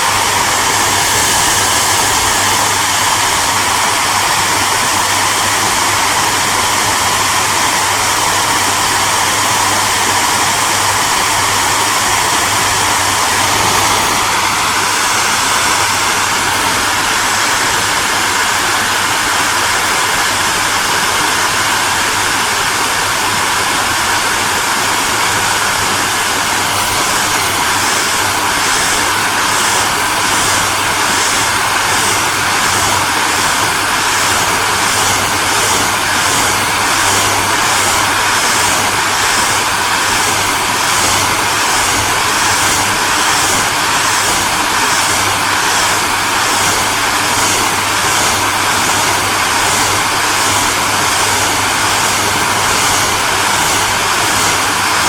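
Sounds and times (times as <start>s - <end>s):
hairdryer running: 0.0s - 55.0s.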